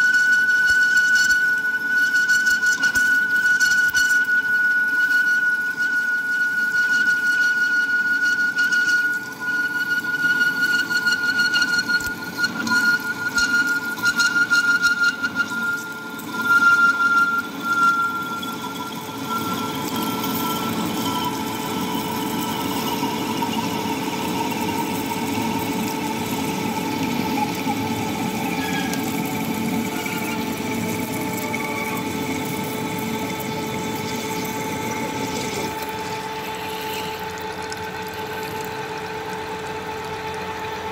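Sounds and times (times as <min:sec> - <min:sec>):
lathe cutting whine: 0:00.0 - 0:40.9.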